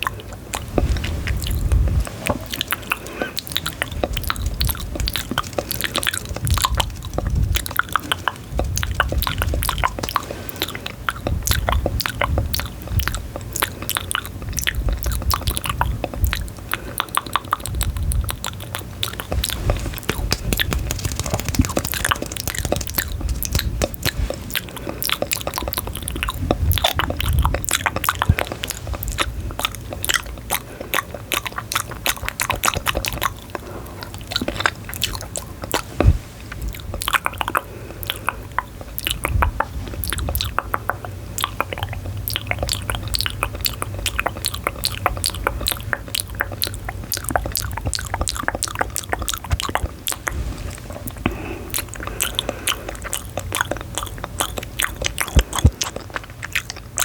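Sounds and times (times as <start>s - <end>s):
crunchy chewing and biting: 0.0s - 57.0s.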